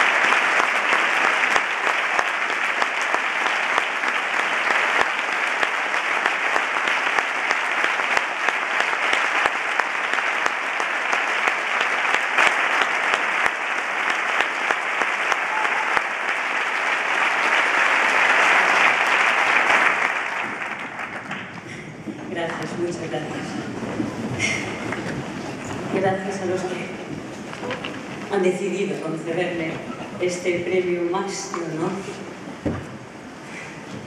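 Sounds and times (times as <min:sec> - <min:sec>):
audience applauding: 0:00.0 - 0:28.4.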